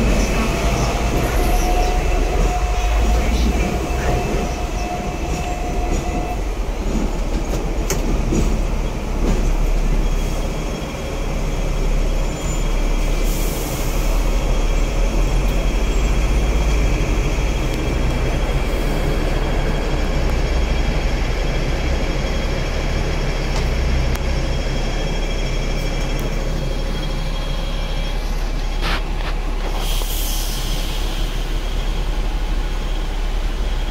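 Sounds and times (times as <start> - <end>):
tram wheels rumbling on rails: 0.0 - 33.9.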